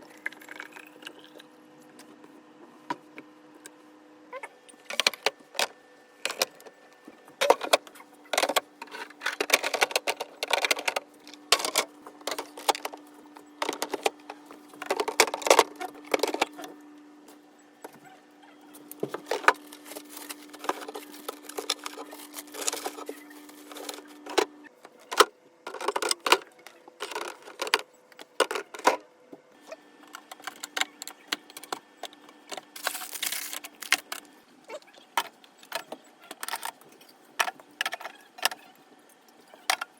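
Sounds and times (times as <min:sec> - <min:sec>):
low fridge hum: 0:00.0 - 0:39.9.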